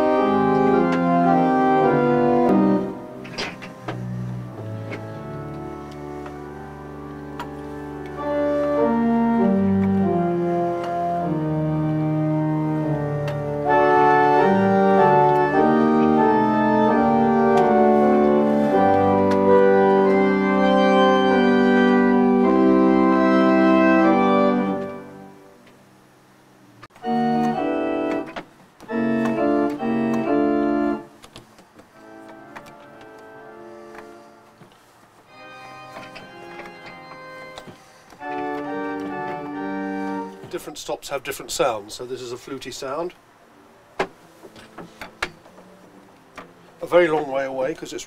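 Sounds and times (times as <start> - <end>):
pipe organ chords: 0.0 - 40.8.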